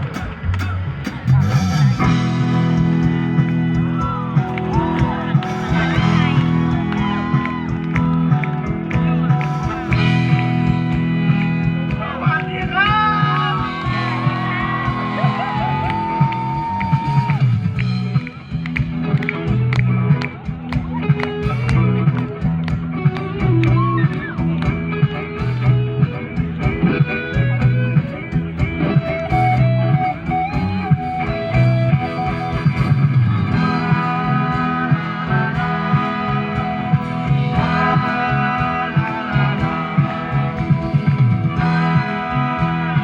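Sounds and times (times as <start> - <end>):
bass line: 0.0 - 43.0
guitar melody: 0.0 - 43.0
steady drum beat: 0.0 - 43.0.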